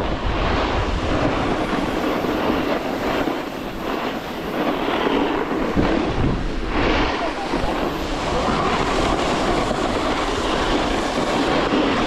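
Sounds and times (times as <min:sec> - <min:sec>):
snowboard scraping on snow: 0:00.0 - 0:12.0
wind on microphone: 0:00.0 - 0:12.0.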